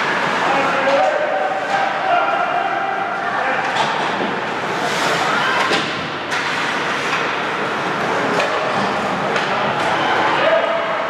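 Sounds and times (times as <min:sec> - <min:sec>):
rink and crowd noise: 0:00.0 - 0:11.0.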